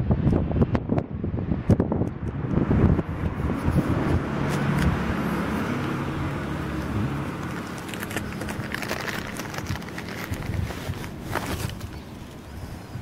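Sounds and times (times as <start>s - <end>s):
road noise: 0.0s - 13.0s
vehicle engine running: 2.1s - 13.0s.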